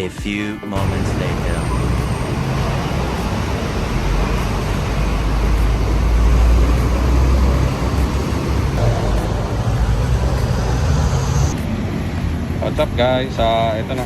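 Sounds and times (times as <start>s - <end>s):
traffic rumble: 0.8s - 14.0s.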